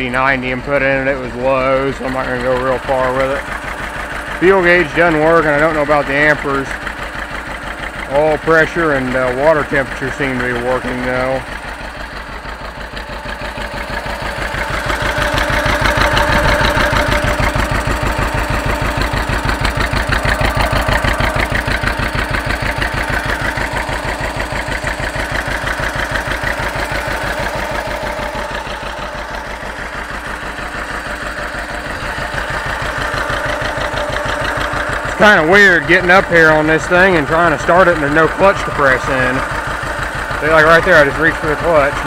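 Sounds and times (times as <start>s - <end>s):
tractor engine idling: 0.0s - 42.0s.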